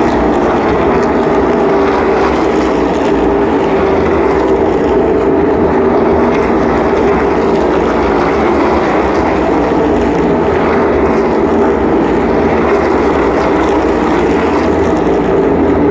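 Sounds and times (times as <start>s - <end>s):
race cars engines droning: 0.0s - 15.9s.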